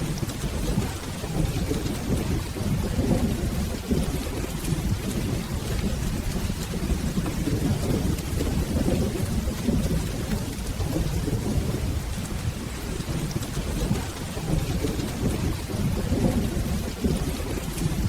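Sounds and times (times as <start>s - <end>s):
rolling thunder: 0.0s - 18.0s
steady rain: 0.0s - 18.0s.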